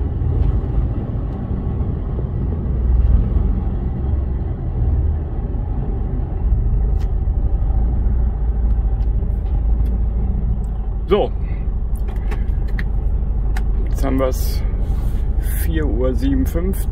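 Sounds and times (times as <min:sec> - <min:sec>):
truck diesel engine rumble: 0:00.0 - 0:16.9.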